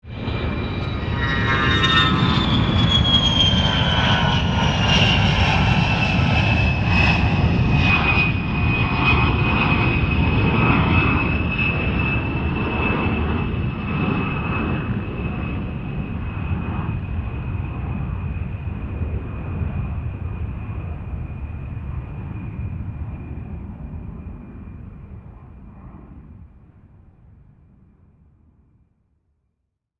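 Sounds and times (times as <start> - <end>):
jet engine roaring: 0.0 - 26.0.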